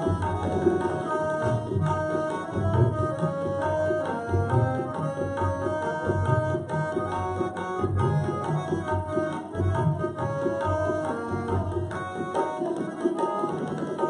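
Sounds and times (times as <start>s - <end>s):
harmonium melody: 0.0s - 14.0s
tabla playing a steady rhythm: 0.0s - 14.0s.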